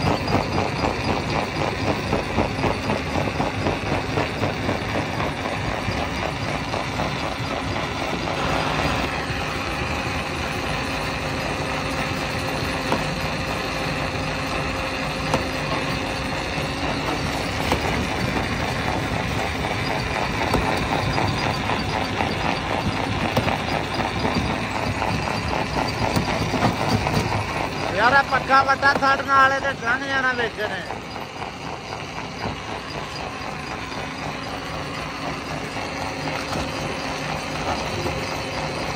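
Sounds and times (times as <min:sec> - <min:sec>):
steady hum: 0:00.0 - 0:38.9
stone crusher machinery running: 0:00.0 - 0:38.9.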